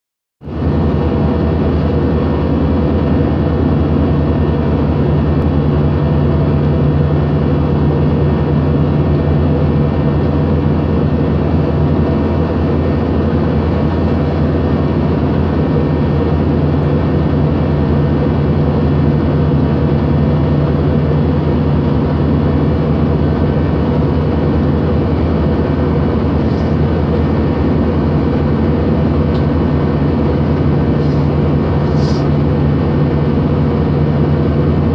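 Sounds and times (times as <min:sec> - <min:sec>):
airliner cabin engine drone: 0:00.4 - 0:34.9
strong low hum: 0:00.4 - 0:34.9.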